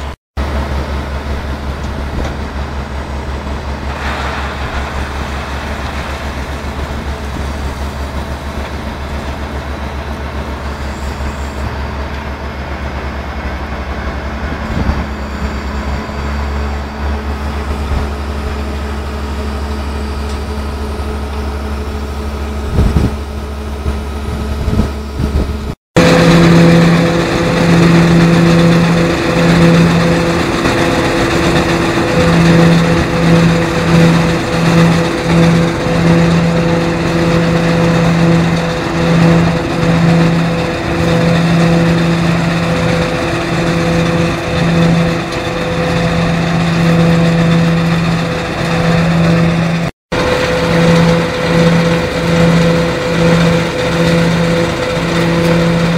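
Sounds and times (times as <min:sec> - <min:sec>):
harvester machine pulsing hum: 0:00.0 - 0:55.9
tractor engine running: 0:00.0 - 0:55.9.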